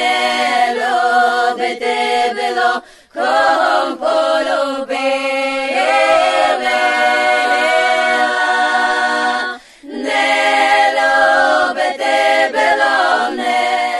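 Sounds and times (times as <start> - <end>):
a cappella voices in harmony: 0.0 - 13.9.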